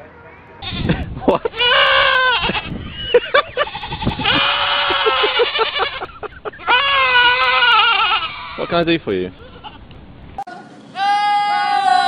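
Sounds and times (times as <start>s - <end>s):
goats screaming: 0.6s - 9.9s, 11.0s - 12.0s.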